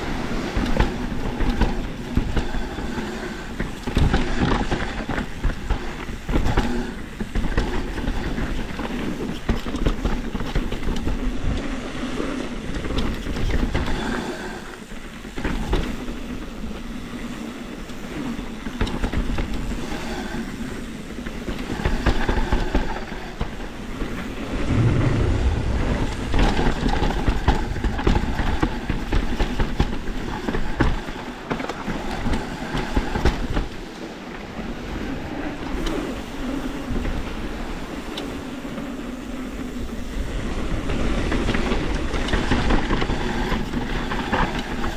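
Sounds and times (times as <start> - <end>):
bike rattling over bumps: 0.0 - 44.9
bike tyres rolling over dirt: 0.0 - 44.9.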